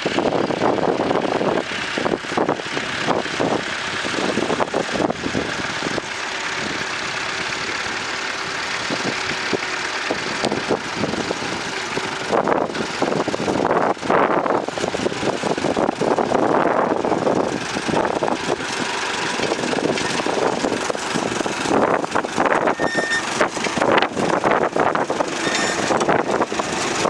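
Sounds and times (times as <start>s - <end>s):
tractor engine running roughly: 0.0s - 27.0s.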